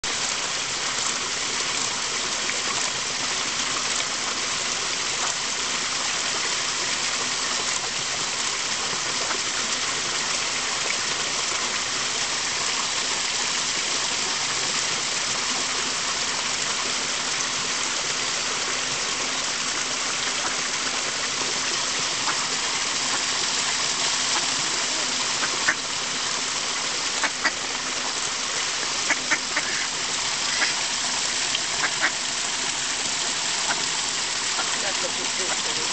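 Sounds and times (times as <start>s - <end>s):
flowing water: 0.0s - 35.9s.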